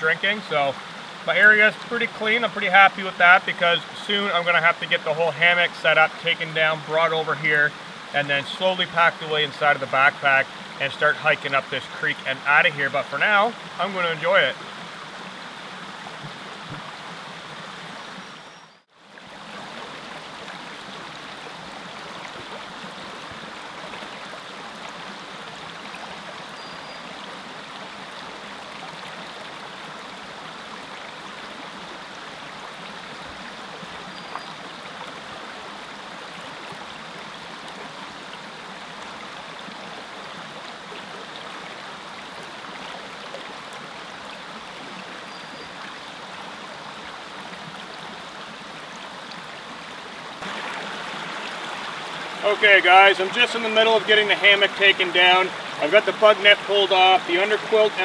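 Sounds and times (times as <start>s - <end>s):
creek running over rocks: 0.0s - 58.0s.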